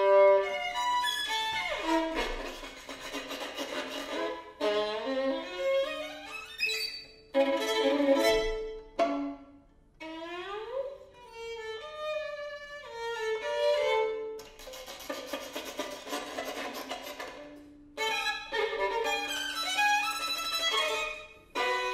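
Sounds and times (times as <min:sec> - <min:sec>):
string quartet playing: 0:00.0 - 0:21.9.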